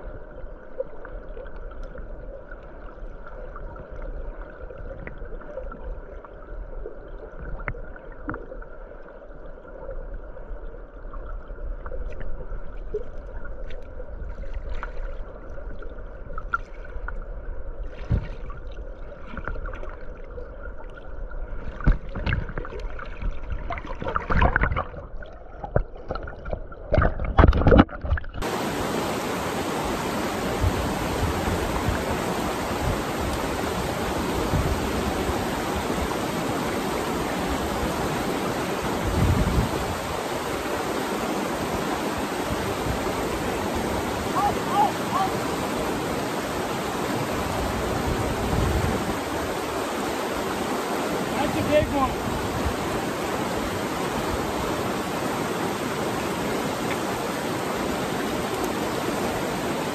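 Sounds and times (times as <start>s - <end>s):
muffled water rushing underwater: 0.0s - 59.9s.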